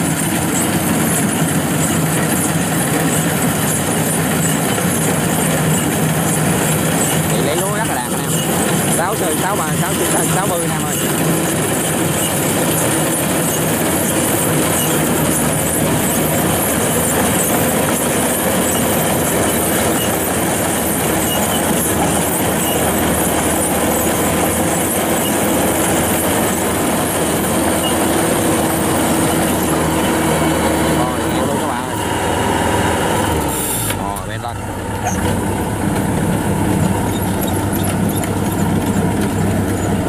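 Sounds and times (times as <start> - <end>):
diesel engine drone: 0.0 - 40.0
threshing machinery clatter: 0.0 - 40.0.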